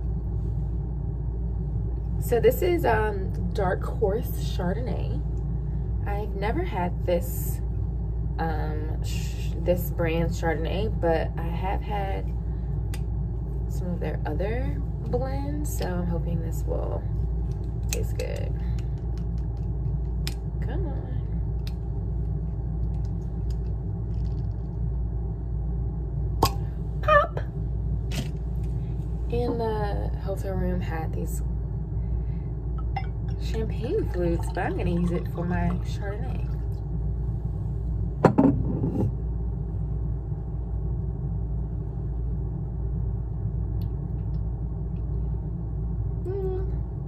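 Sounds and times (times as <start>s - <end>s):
low background rumble: 0.0s - 47.0s.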